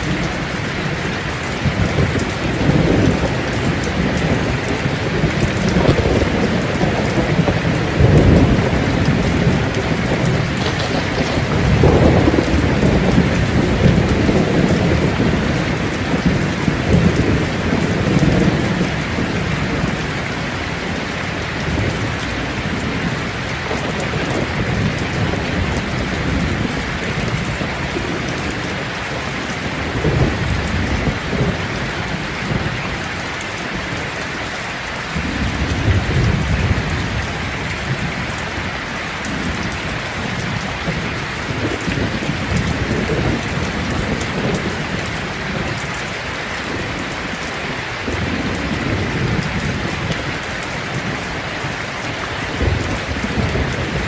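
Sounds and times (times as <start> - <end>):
rolling thunder: 0.0 - 34.0, 35.0 - 54.0
heavy rain falling: 0.0 - 54.0.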